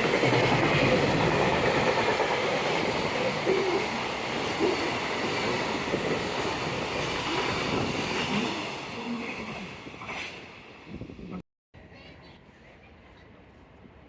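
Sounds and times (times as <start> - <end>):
train wheels rumbling on rail: 0.0 - 11.3.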